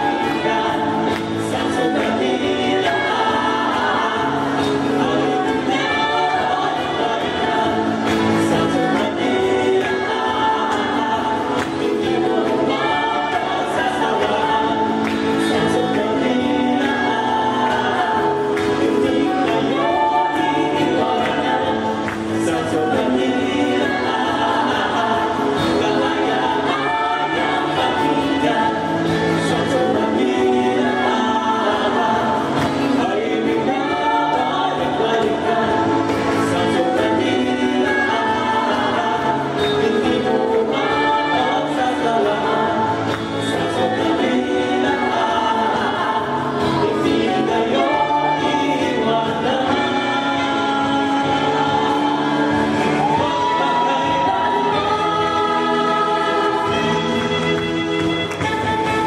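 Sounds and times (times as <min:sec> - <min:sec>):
live song with voices singing: 0:00.0 - 0:59.0.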